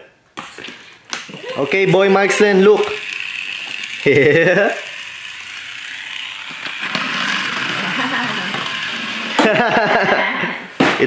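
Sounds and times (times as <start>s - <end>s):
toy car whirring on plastic track: 0.6s - 10.6s.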